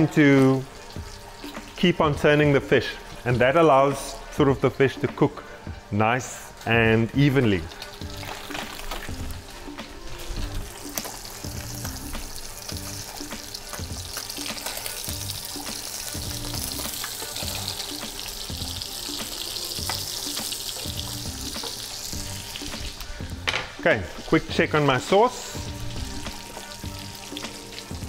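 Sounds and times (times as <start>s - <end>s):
fish sizzling in a frying pan: 0.0s - 28.0s.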